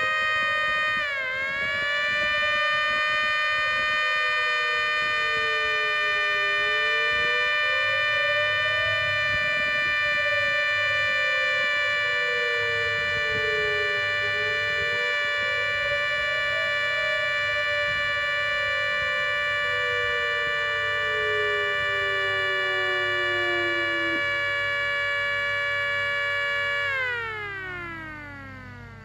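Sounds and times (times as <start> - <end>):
lower siren tone falling and rising: 0.0 - 29.0
siren chord: 0.0 - 29.0.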